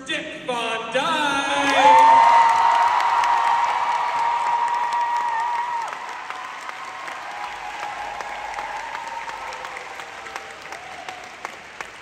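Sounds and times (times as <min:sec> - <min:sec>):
crowd applauding: 0:01.6 - 0:12.0.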